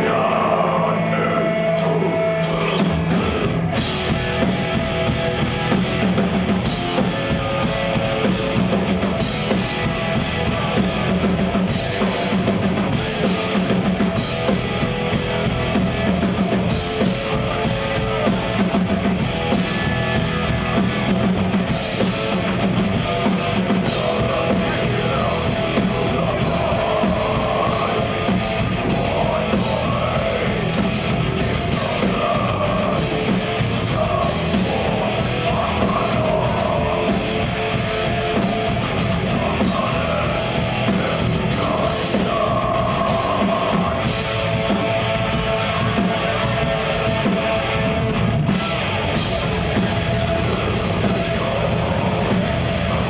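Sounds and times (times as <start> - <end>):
distorted guitars: 0.0 - 53.0
drum kit: 0.0 - 53.0
metal band playing live: 0.0 - 53.0.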